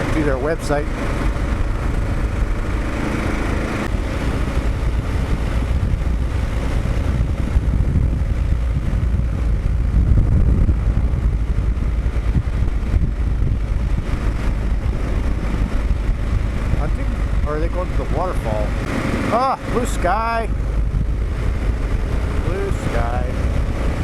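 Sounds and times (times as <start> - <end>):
motorcycle engine running: 0.0 - 24.0
wind rush: 0.0 - 24.0.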